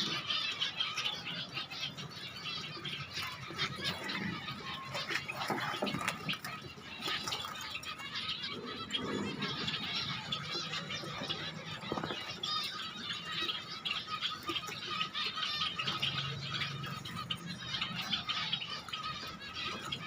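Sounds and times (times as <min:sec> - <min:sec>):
finches chirping: 0:00.0 - 0:20.0.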